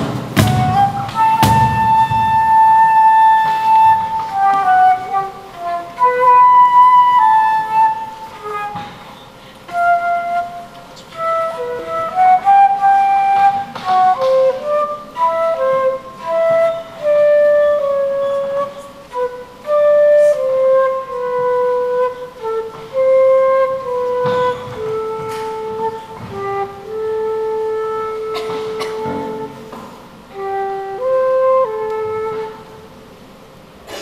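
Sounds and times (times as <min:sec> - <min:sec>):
flute playing slow melody: 0:00.0 - 0:33.2.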